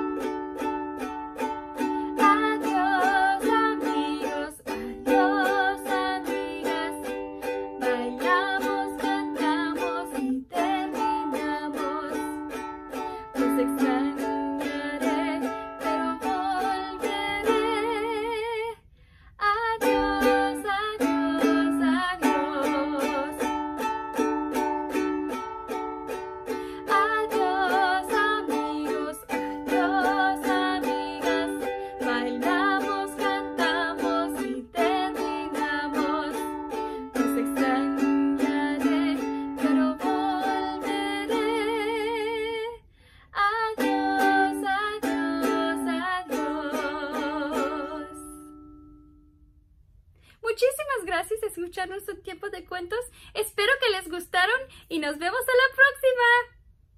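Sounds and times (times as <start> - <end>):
strummed ukulele: 0.0 - 18.7, 19.4 - 42.8, 43.4 - 49.5
woman singing: 1.7 - 23.9, 26.5 - 48.7, 50.4 - 56.6.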